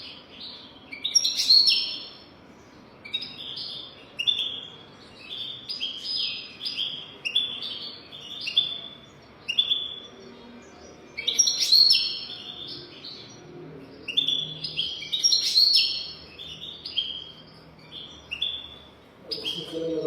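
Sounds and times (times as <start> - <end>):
goldfinch singing: 0.0 - 20.0.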